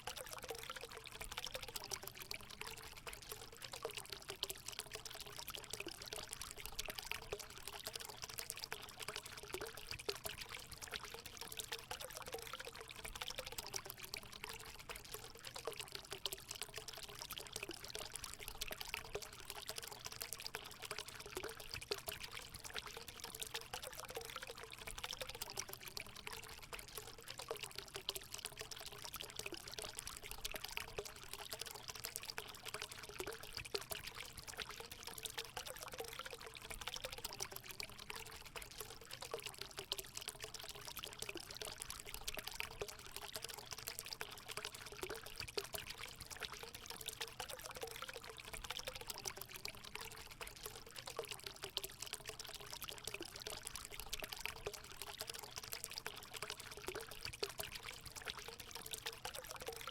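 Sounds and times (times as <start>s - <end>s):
water gurgling: 0.0s - 59.9s
water pouring into pool: 0.0s - 59.9s.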